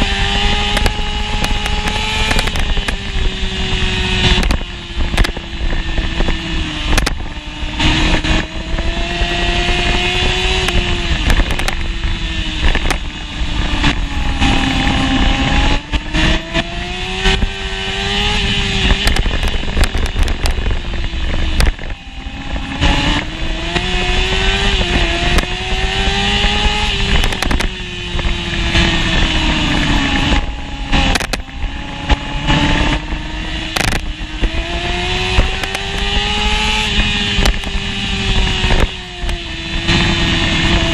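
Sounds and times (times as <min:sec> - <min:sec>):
motorcycle engine racing: 0:00.0 - 0:40.9.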